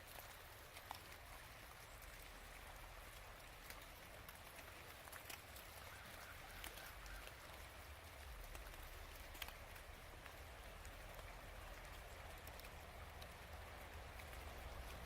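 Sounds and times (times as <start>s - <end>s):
flowing river water: 0.0s - 15.0s
small ticks and drips: 0.0s - 15.0s.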